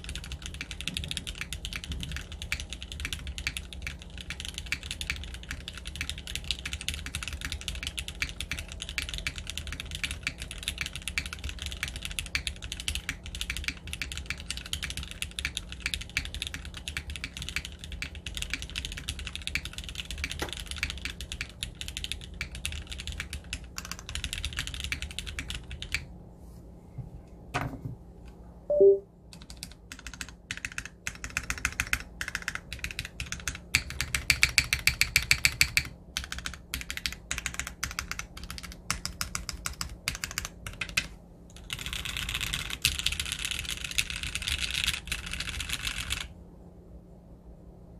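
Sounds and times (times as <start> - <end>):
mechanical keyboard typing: 0.0 - 26.0, 28.7 - 46.3.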